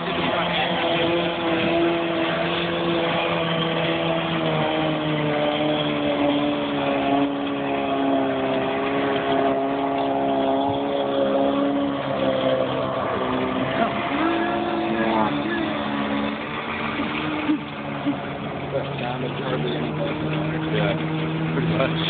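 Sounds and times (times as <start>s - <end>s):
outboard motor at full throttle: 0.0s - 22.0s.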